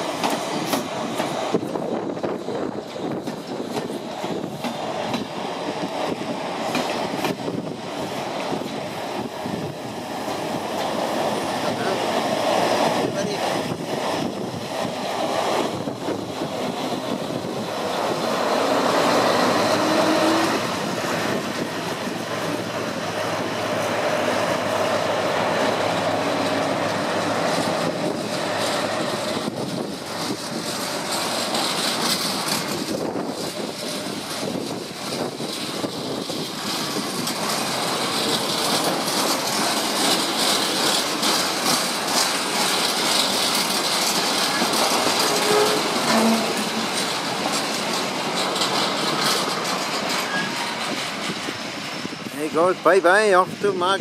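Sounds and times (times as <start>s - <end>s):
diesel locomotive passing: 0.0s - 54.0s
wheels rumbling on track: 0.0s - 54.0s.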